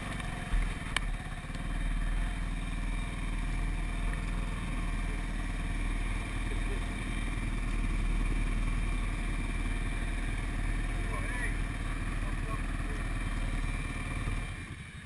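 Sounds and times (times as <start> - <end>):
atv engine running hard: 0.0 - 15.0
wheels spinning through mud: 0.0 - 15.0.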